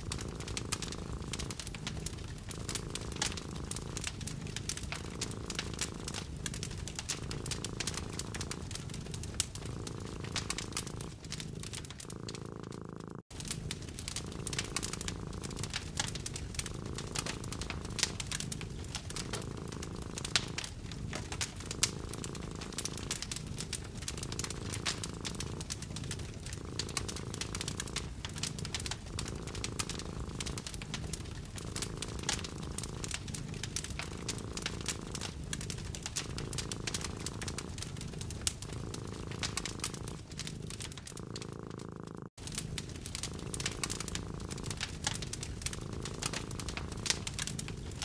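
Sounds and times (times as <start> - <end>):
cat purring: 0.0 - 48.0
wood fire crackling and popping: 0.0 - 48.0.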